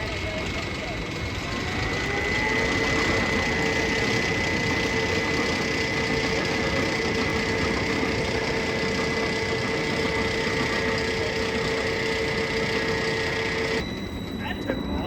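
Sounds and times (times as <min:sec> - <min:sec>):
machine humming with whine: 0:00.0 - 0:15.0.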